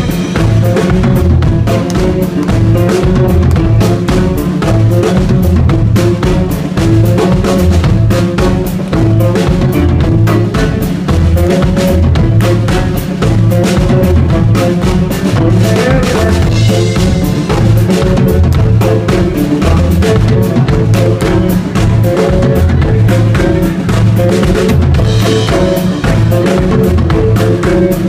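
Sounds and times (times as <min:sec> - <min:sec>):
drum kit beat: 0:00.0 - 0:28.0
electric guitars: 0:00.0 - 0:28.0.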